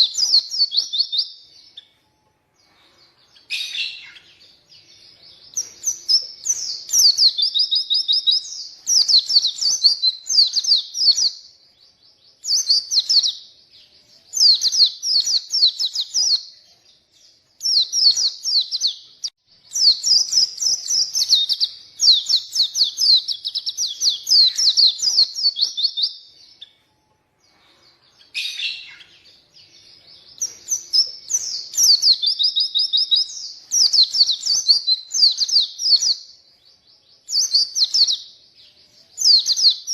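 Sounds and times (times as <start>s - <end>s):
bird singing warbling phrases: 0.0s - 39.9s.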